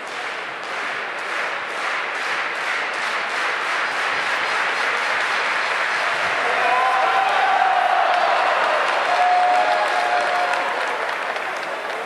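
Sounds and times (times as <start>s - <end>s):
crowd clapping: 0.0s - 12.0s
crowd noise: 0.0s - 12.0s.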